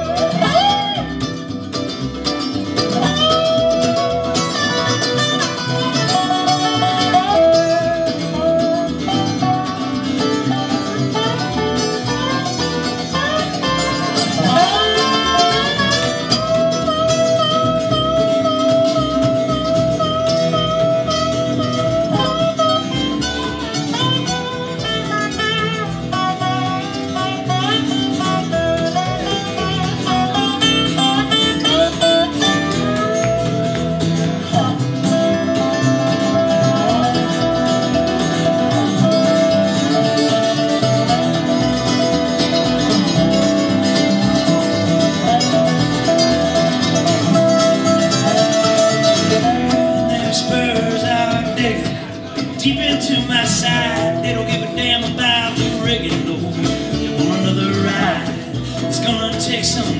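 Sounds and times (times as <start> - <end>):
mandolin: 0.0 - 59.9
slide resonator guitar: 0.0 - 59.9
strummed acoustic guitar: 0.0 - 59.9
upright bass: 0.0 - 59.9.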